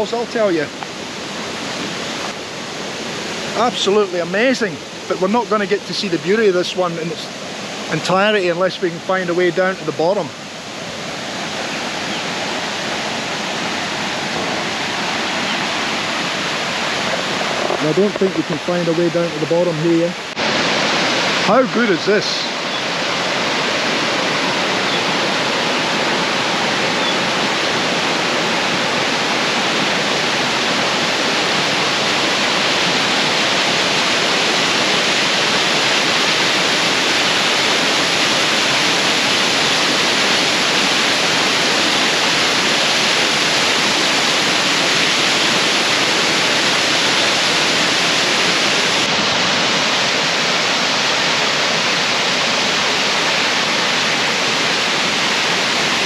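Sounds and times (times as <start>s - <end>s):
waterfall pouring: 3.0s - 56.0s.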